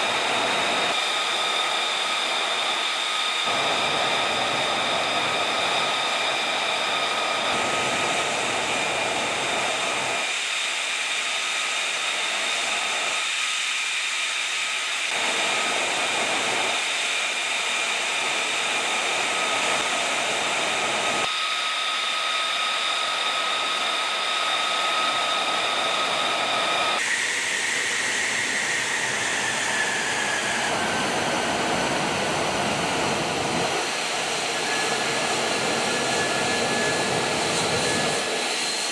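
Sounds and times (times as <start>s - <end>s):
jet engine idling with high whine: 0.0s - 38.9s.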